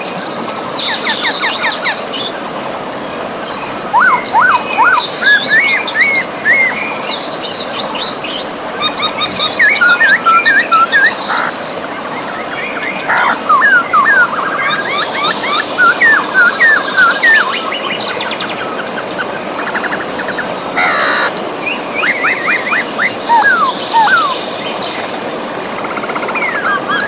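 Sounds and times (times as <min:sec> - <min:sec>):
river water rushing: 0:00.0 - 0:27.0
songbirds chirping and trilling: 0:00.0 - 0:27.0.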